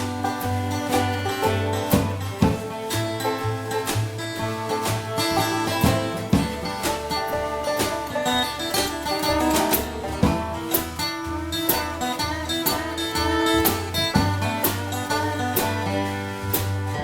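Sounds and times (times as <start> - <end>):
bass: 0.0 - 17.0
guitar playing: 0.0 - 17.0
steady drum beat: 0.0 - 17.0.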